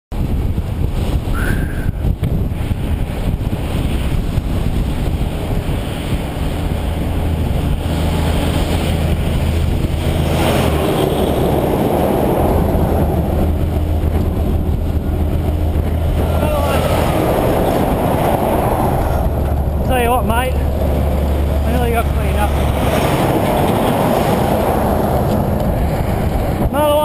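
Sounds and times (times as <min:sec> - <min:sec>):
wind buffeting microphone: 0:00.1 - 0:27.0
bike rolling on road: 0:00.2 - 0:27.0
heavy truck rumble: 0:00.2 - 0:27.0.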